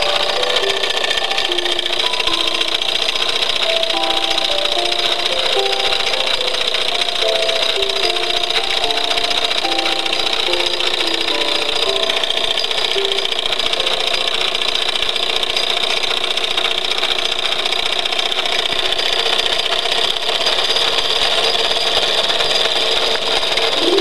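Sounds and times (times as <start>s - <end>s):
toy steam engine rattling: 0.0s - 24.0s.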